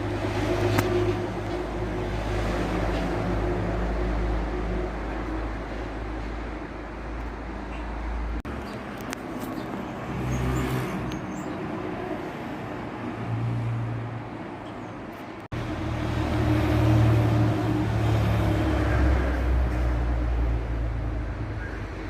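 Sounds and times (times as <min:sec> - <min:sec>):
vehicles driving by: 0:00.0 - 0:22.0.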